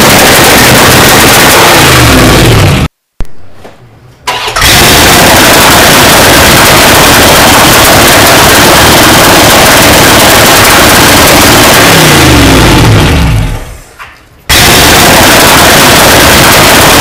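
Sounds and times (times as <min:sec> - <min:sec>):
rough pickup engine revving: 0:00.0 - 0:02.9, 0:04.3 - 0:13.8, 0:14.5 - 0:17.0.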